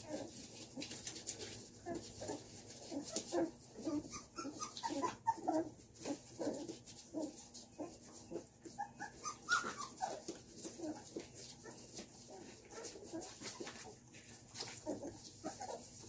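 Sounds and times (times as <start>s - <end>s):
puppies whimpering: 1.8s - 16.0s.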